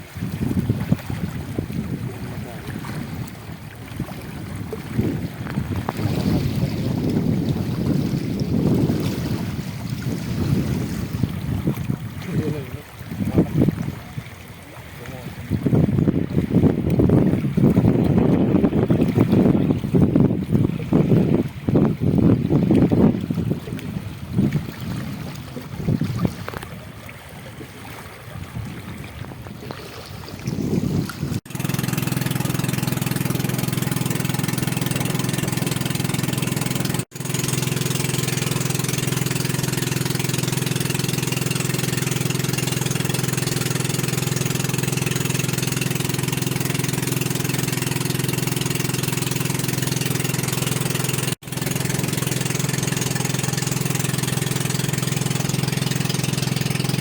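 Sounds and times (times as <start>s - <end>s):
motorboat engine running: 0.0s - 57.0s
wind buffeting microphone: 0.0s - 57.0s.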